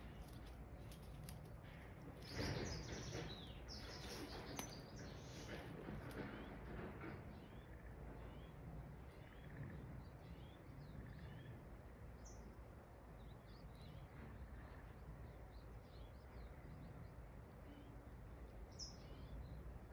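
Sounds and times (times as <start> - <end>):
low steady background noise: 0.0 - 19.9
small birds chirping: 0.0 - 19.9.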